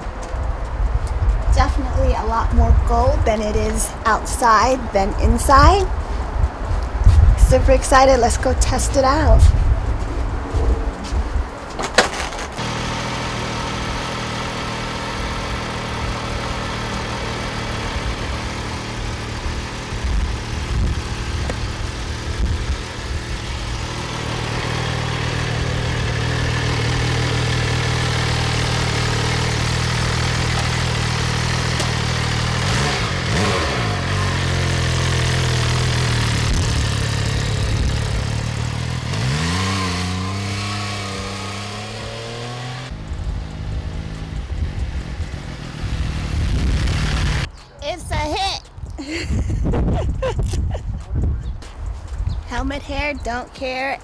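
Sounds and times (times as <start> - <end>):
motorcycle engine idling and revving: 0.0 - 47.7.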